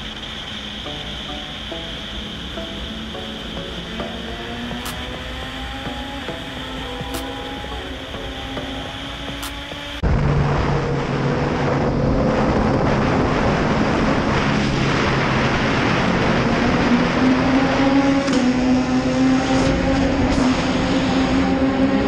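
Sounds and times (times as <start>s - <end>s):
motorcycle engine accelerating: 1.6s - 22.0s.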